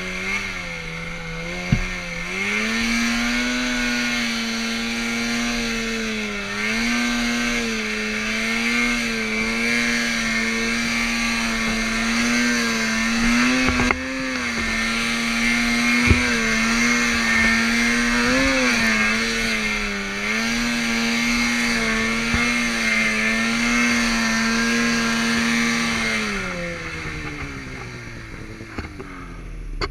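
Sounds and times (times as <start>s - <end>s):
snowmobile engine at high revs: 0.0s - 29.9s.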